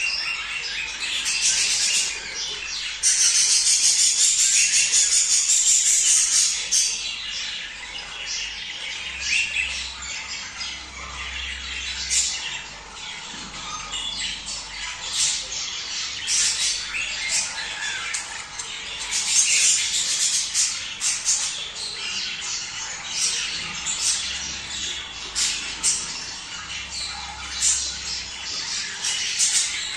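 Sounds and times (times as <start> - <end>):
flock of budgerigars calling: 0.0 - 29.9.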